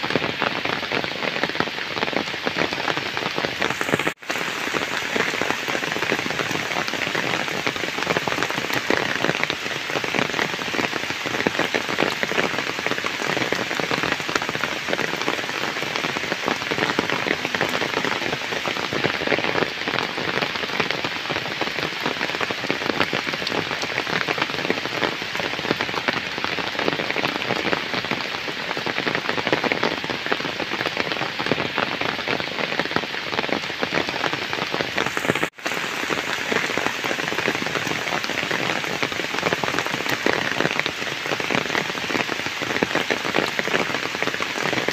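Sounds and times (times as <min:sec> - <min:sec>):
heavy rain on puddles: 0:00.0 - 0:44.9.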